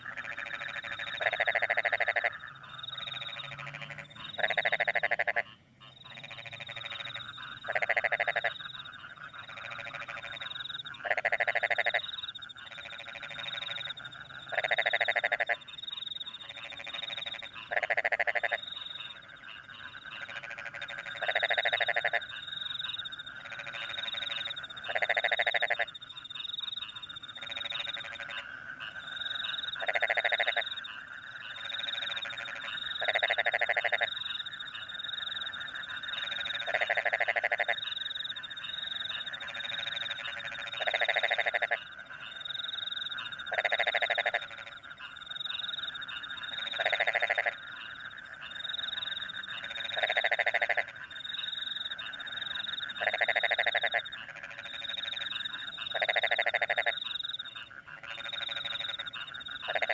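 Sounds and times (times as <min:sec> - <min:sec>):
crickets chirping trill: 0:00.0 - 0:05.2, 0:05.8 - 0:59.9
chorus of frogs: 0:00.0 - 0:59.9
frog loud croak: 0:00.0 - 0:59.9.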